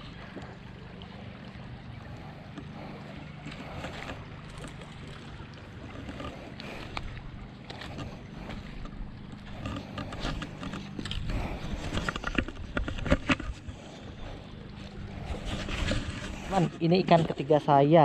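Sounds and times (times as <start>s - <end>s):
steady low rumble: 0.0s - 17.5s.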